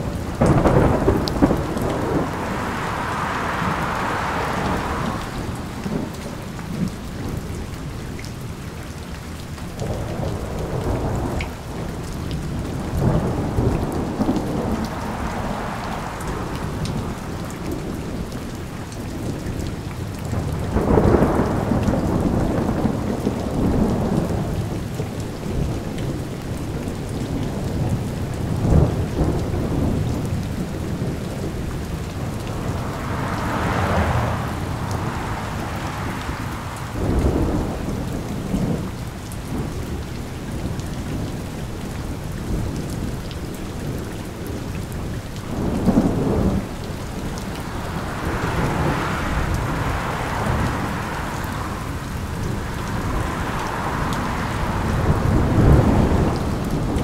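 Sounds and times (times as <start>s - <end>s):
thunder rumbling: 0.0s - 7.5s, 9.7s - 19.4s, 20.2s - 26.3s, 27.2s - 41.4s, 42.5s - 57.0s
steady rain falling: 0.0s - 57.0s.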